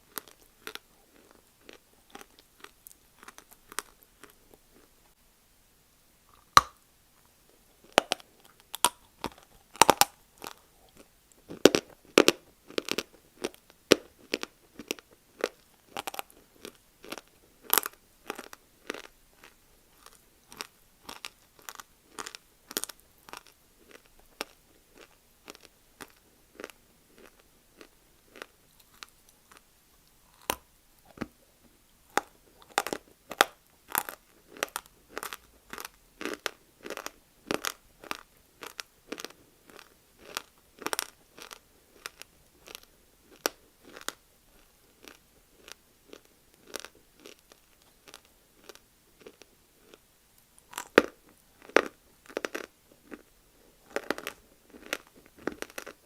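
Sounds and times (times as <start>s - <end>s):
person chewing dry clay crunching: 0.0s - 5.0s, 7.8s - 56.0s.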